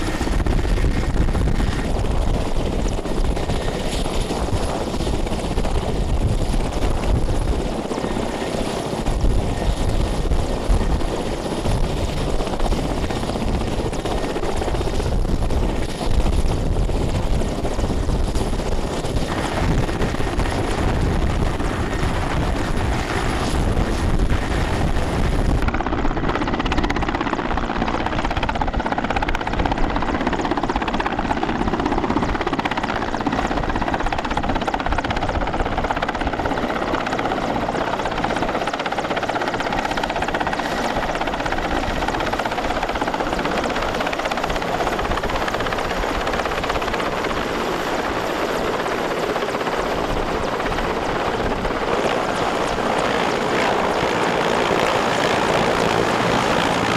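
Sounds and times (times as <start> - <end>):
helicopter engines and rotor: 0.0 - 56.9.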